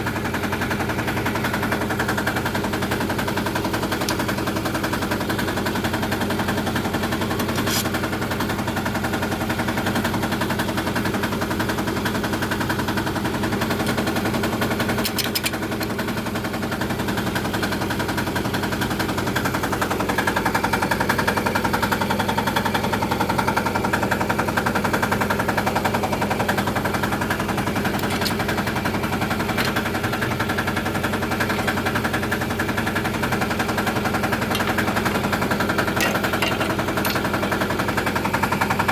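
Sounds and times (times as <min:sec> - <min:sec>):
small engine chugging: 0:00.0 - 0:38.9.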